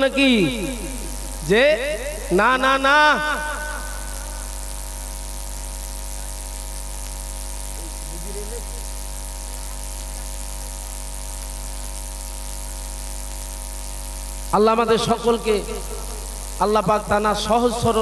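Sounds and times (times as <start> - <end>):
electrical mains hum: 0.0 - 18.0
microphone hiss: 0.0 - 18.0.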